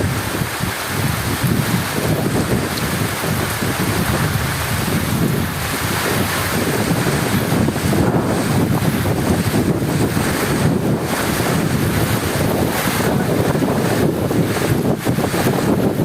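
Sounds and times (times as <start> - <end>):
deep rumble: 0.0 - 16.0
heavy rain rushing: 0.0 - 16.0.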